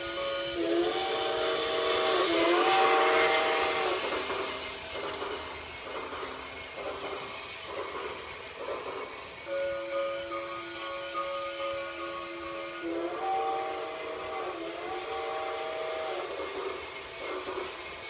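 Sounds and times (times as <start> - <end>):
toy train electronic whistle: 0.0 - 18.0
toy train wheels rattling: 0.0 - 18.0.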